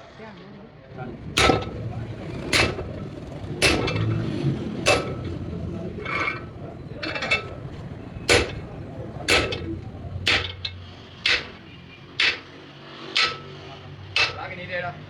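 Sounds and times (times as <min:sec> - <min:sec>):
steady low hum: 0:01.1 - 0:15.0
hammer striking metal: 0:01.4 - 0:14.8.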